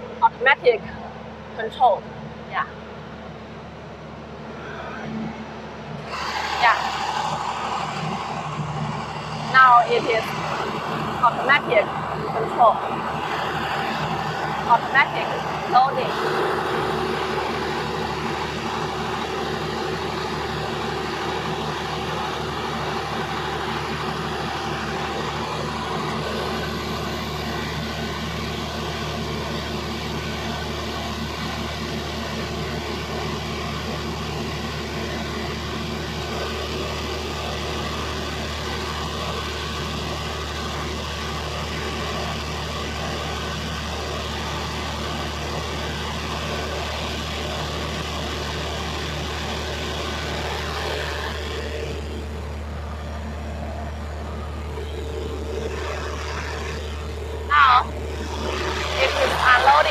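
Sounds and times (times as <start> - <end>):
cooling fans whirring: 0.0 - 59.9
diesel generator droning: 0.0 - 59.9.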